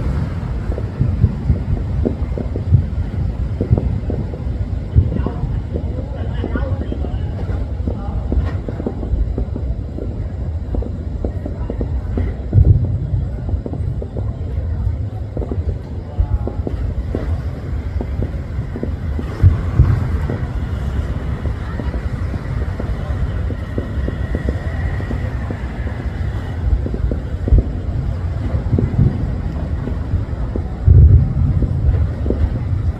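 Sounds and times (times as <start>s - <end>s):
distant fireworks booms: 0.0s - 32.9s
wind buffeting microphone: 0.0s - 32.9s.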